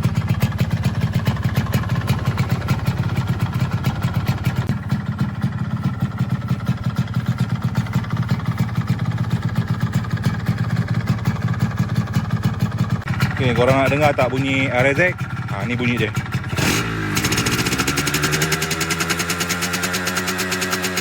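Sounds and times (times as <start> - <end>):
two-stroke engine idling: 0.0 - 21.0.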